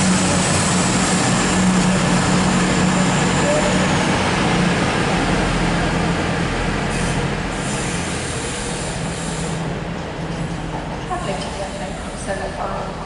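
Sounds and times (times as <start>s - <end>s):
diesel train engines droning: 0.0s - 13.0s.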